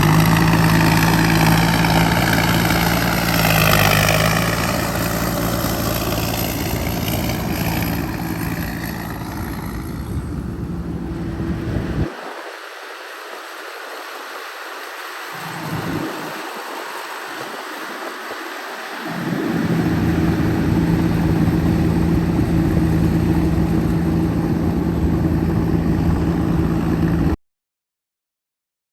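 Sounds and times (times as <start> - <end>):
tractor engine humming: 0.0 - 27.4.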